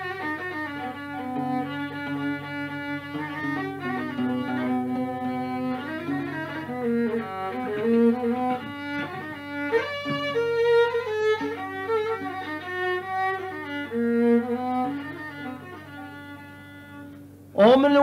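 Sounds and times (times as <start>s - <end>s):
violin playing sliding melody: 0.0s - 18.0s.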